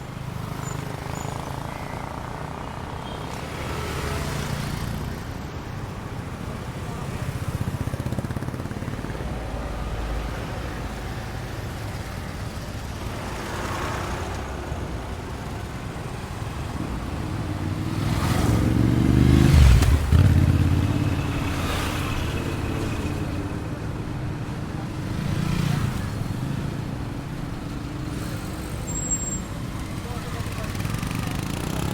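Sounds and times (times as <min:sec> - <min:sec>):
road traffic: 0:00.0 - 0:31.9.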